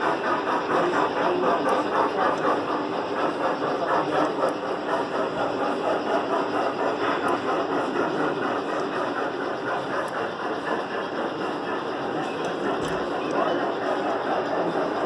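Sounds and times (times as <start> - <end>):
machine running with regular beat: 0.0 - 15.0.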